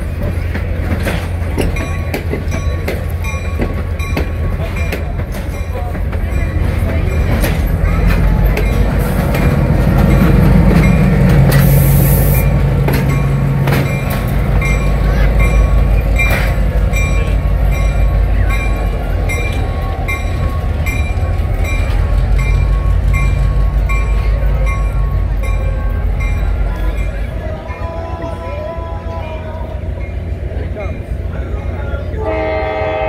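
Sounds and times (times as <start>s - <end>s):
train wheels clacking over rail joints: 0.0s - 27.4s
diesel locomotive engine rumble: 0.0s - 33.0s.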